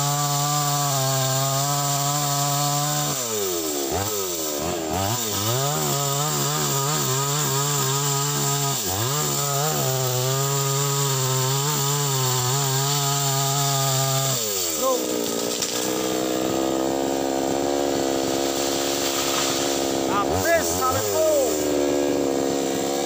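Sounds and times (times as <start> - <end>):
chainsaw cutting tree trunk: 0.0 - 23.0.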